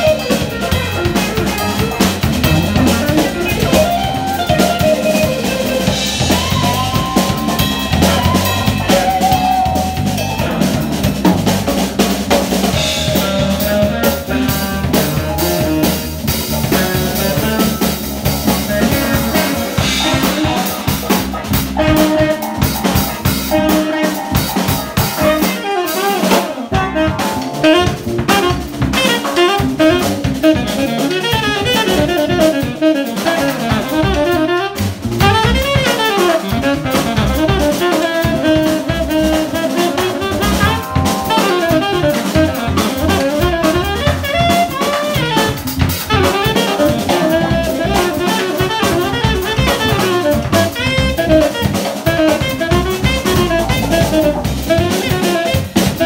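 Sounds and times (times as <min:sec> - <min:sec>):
drum kit: 0:00.0 - 0:56.0
electric bass: 0:00.0 - 0:56.0
electric guitar: 0:00.0 - 0:56.0
tenor saxophone melody: 0:00.0 - 0:56.0.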